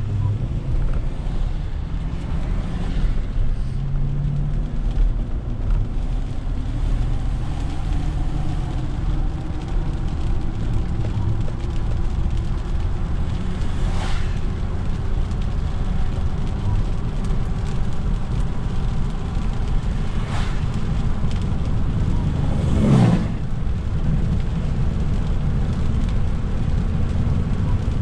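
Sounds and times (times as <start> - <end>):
car tyres and engine rumble: 0.0 - 28.0
passing car tyres on wet road: 0.0 - 28.0.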